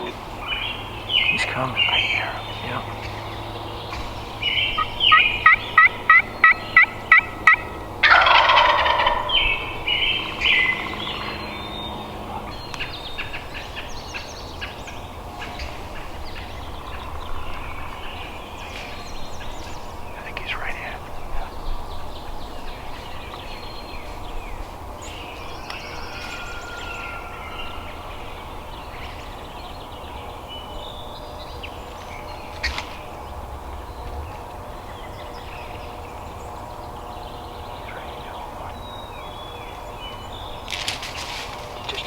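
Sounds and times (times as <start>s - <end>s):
low background rumble: 0.0s - 42.0s
songbirds chirping: 0.0s - 42.0s.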